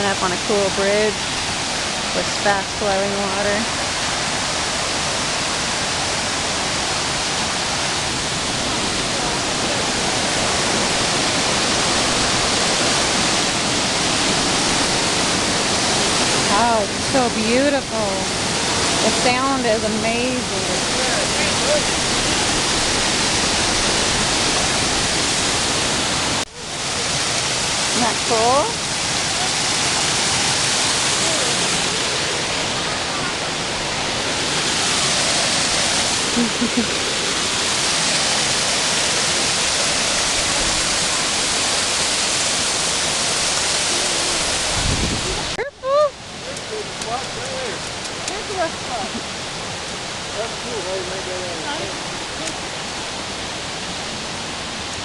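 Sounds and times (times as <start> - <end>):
mountain creek rushing: 0.0 - 55.0.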